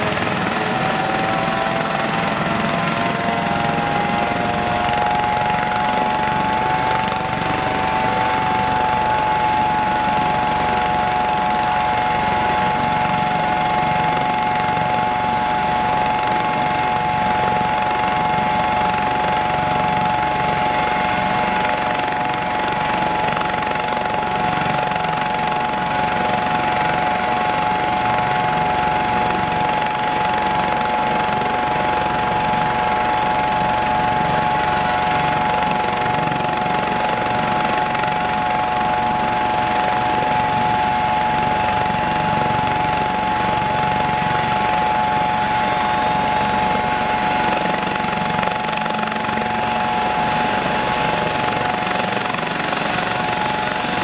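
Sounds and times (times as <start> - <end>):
helicopter rotor and engine: 0.0 - 54.0
high turbine whine: 0.0 - 54.0.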